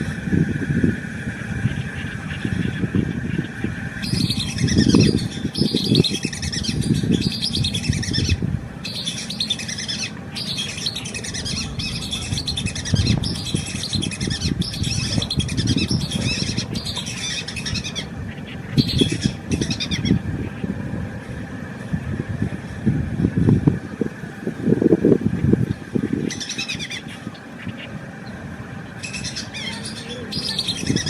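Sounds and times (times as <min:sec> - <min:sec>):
many birds chirping: 0:00.0 - 0:31.0.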